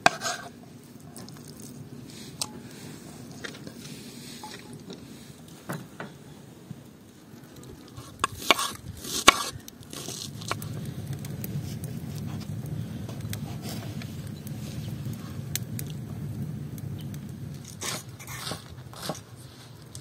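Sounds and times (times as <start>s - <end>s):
low steady rumble: 0.6s - 20.0s.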